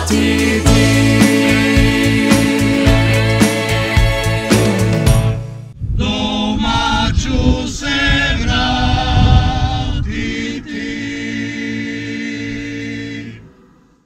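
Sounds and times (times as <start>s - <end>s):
male vocal group singing harmony: 0.0s - 5.0s, 6.0s - 13.5s.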